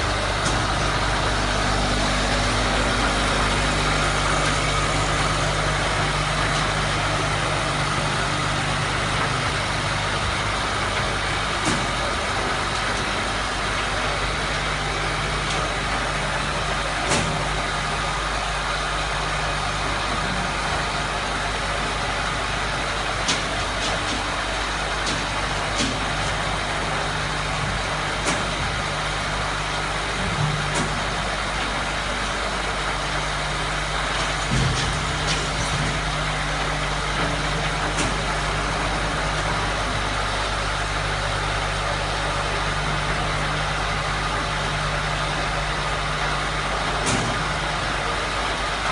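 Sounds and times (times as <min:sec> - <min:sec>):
thresher machine droning: 0:00.0 - 0:48.9.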